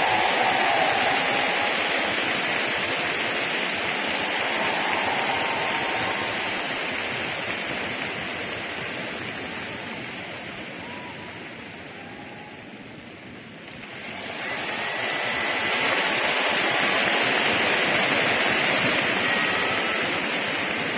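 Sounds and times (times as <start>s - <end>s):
large crowd applauding: 0.0s - 12.7s, 13.7s - 20.9s.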